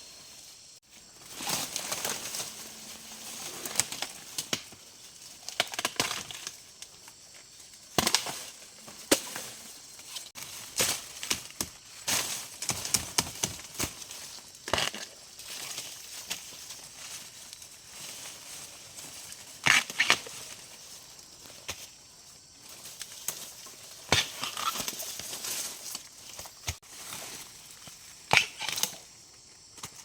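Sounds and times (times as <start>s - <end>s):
dry plants snapping and rustling: 0.8s - 29.1s.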